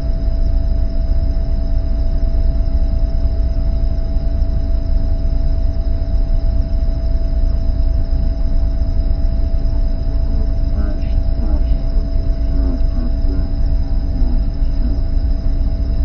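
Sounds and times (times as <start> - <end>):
helicopter rotor and engine drone: 0.0 - 16.0
steady hum: 0.0 - 16.0.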